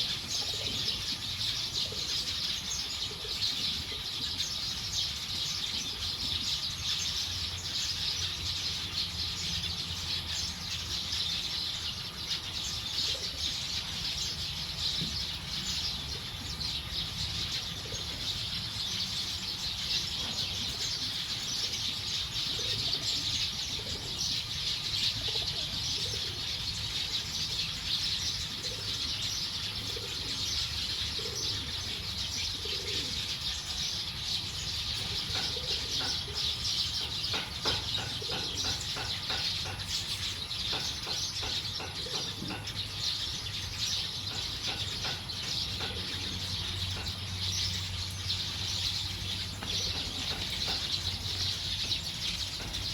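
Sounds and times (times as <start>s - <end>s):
flock of birds chirping: 0.0s - 52.9s.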